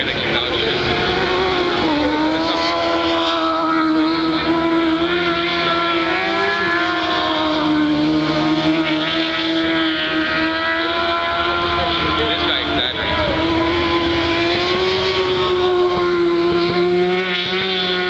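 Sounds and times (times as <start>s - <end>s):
racing motorcycles at high revs: 0.0s - 18.0s.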